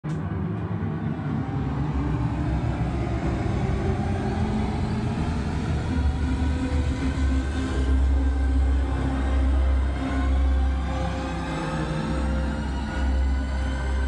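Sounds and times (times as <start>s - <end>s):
deep bass rumble from speakers: 0.1s - 14.0s.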